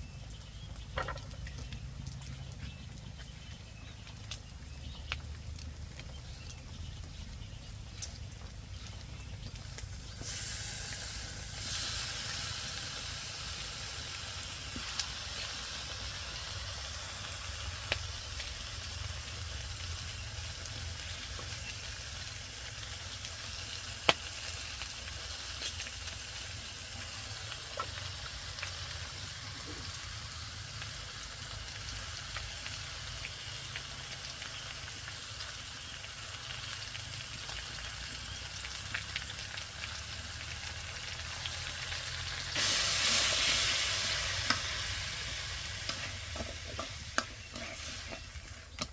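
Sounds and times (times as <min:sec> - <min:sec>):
food sizzling in hot oil: 0:05.9 - 0:48.9.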